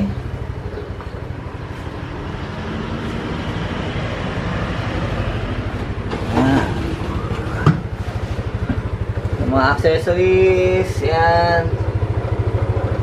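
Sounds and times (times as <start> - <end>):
pulsing motor rumble: 0.0 - 13.0.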